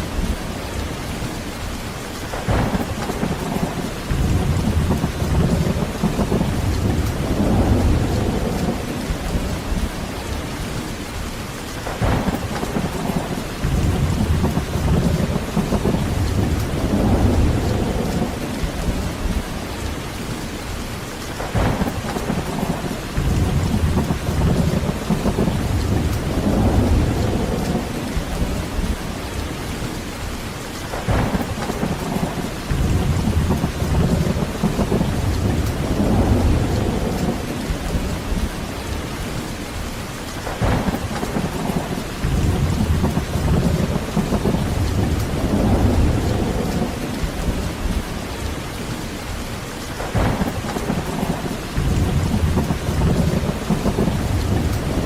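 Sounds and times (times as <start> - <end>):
heavy rain: 0.0 - 55.0
rolling thunder: 2.3 - 10.1, 11.8 - 19.6, 21.4 - 29.5, 30.9 - 39.0, 39.8 - 48.5, 50.0 - 55.0.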